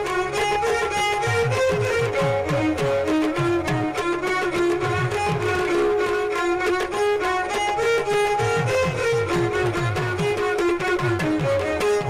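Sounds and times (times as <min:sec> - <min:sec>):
bowed string melody: 0:00.0 - 0:12.0.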